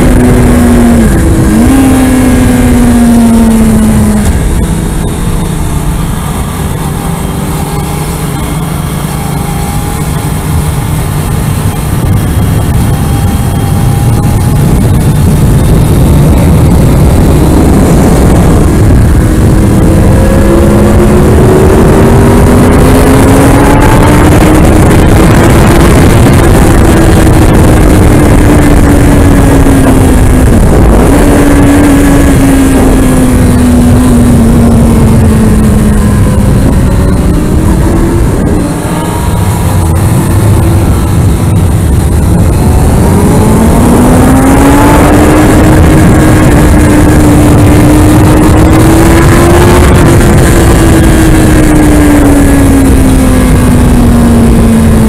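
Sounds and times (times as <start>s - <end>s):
motorcycle engine at speed: 0.0s - 55.0s
wind rush on microphone: 0.0s - 55.0s.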